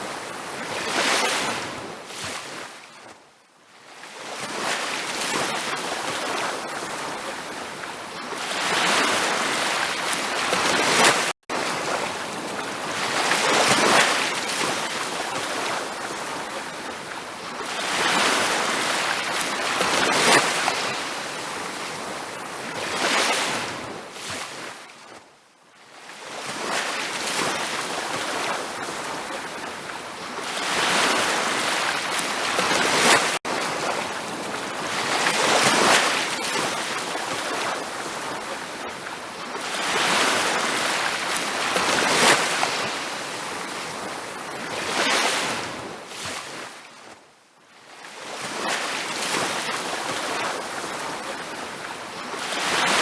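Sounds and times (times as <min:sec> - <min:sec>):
ocean surf breaking on beach: 0:00.0 - 0:03.0, 0:03.9 - 0:25.1, 0:26.0 - 0:47.2, 0:48.1 - 0:53.0.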